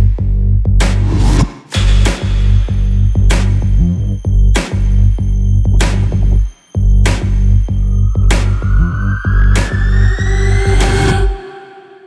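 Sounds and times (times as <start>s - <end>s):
electronic dance music: 1.6s - 11.8s.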